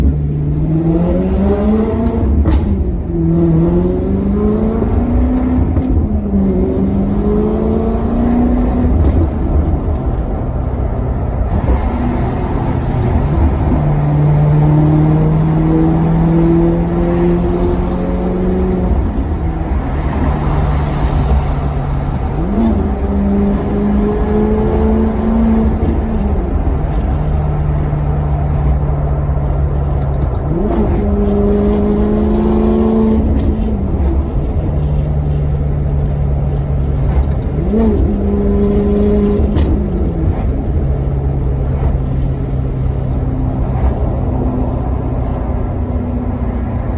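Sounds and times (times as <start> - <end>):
car engine accelerating through gears: 0.0 - 46.9.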